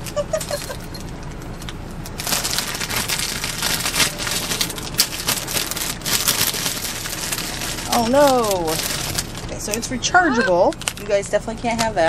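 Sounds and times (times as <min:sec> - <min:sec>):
plastic packaging crinkling: 0:00.5 - 0:11.2.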